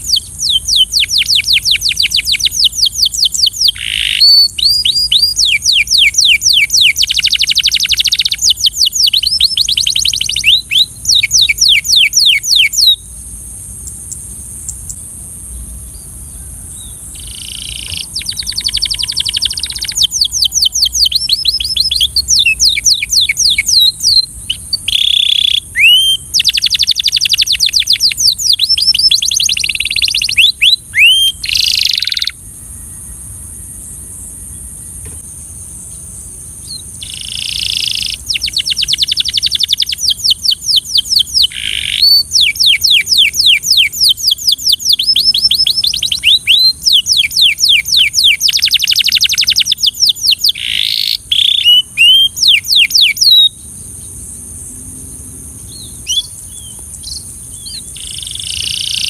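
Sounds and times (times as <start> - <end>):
canary singing trills: 0.0 - 35.3, 35.9 - 54.5, 55.5 - 59.0
steady high hiss: 0.0 - 59.0.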